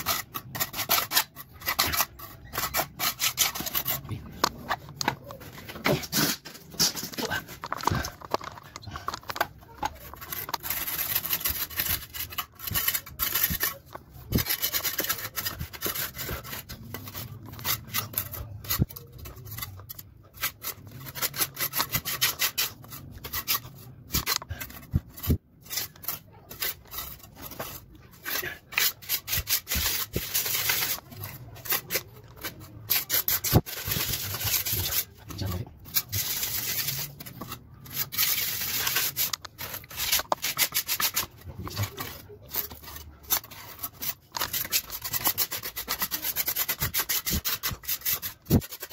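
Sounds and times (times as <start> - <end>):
rubbing and scraping wood: 0.0 - 48.9.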